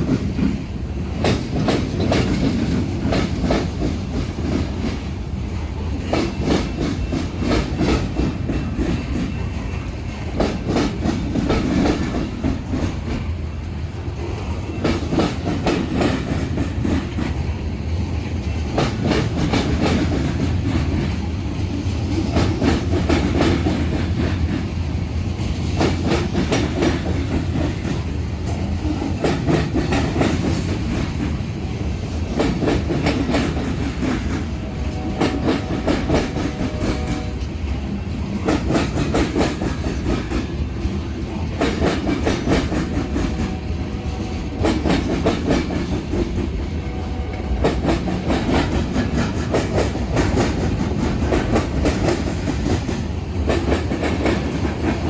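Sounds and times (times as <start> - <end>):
train rumble: 0.0 - 55.0
train wheels clattering over crossing: 0.0 - 55.0.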